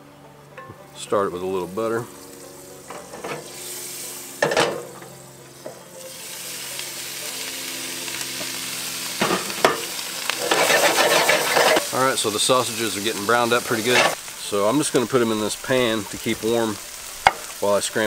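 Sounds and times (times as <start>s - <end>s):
sausage sizzling in a skillet: 0.8s - 18.0s.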